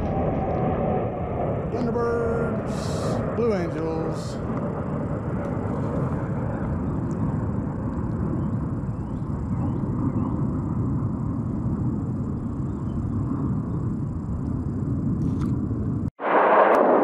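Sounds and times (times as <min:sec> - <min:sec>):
jets flying over: 0:00.0 - 0:17.0.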